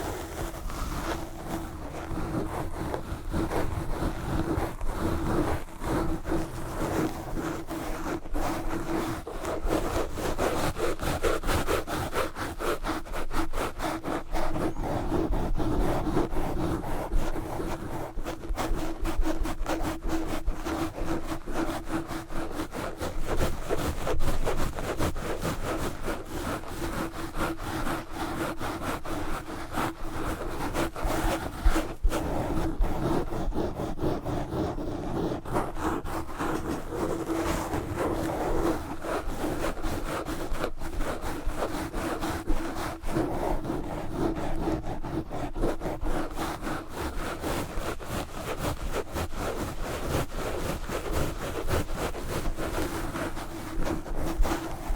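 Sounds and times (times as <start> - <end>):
gloves scratching microphone: 0.0 - 54.9.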